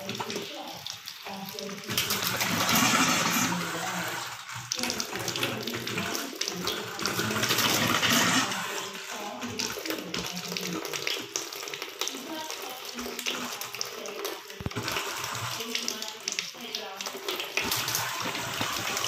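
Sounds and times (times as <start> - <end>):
tap water splashing into sink: 0.0 - 19.0.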